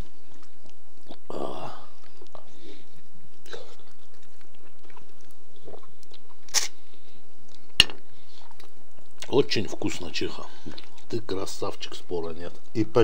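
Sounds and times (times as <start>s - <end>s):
man chewing meat: 0.0s - 12.8s.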